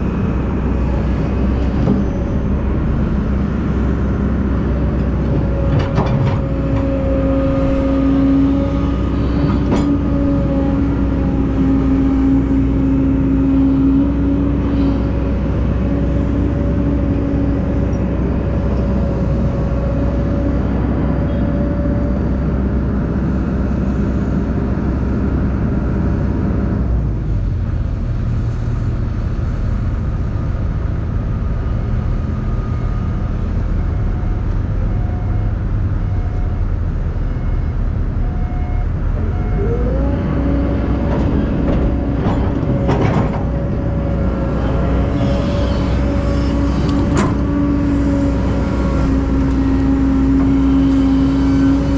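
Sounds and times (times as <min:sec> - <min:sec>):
heavy diesel machinery engines: 0:00.0 - 0:51.9.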